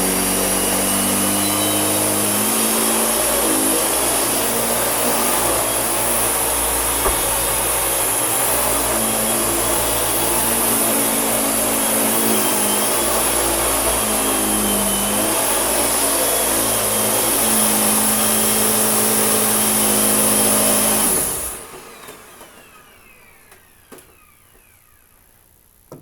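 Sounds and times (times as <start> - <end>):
motor winding down whine: 0.0 - 25.6
vacuum cleaner running: 0.0 - 26.0.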